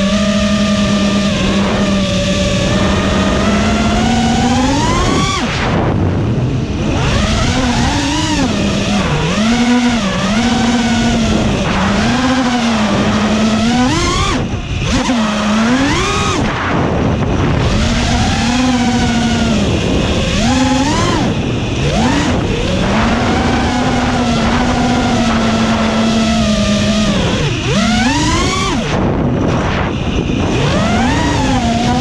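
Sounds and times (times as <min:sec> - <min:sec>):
drone motors and propellers whining: 0:00.0 - 0:32.0.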